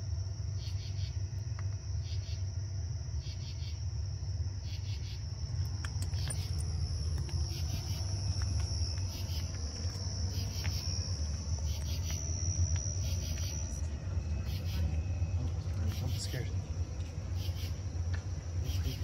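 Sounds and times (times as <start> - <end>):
low rumble: 0.0 - 19.0
night insects chirping: 0.0 - 19.0.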